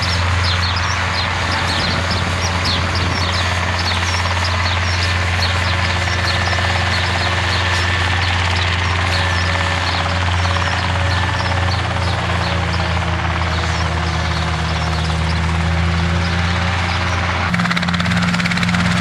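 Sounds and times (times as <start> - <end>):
engine and propeller drone: 0.0 - 19.0.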